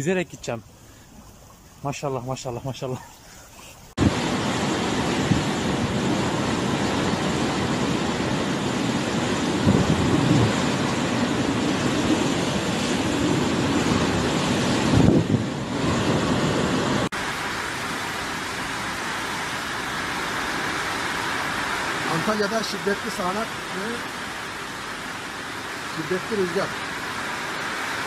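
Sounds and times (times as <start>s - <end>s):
rush of water: 0.0s - 28.0s
heavy rain: 4.0s - 28.0s
storm wind: 4.0s - 28.0s.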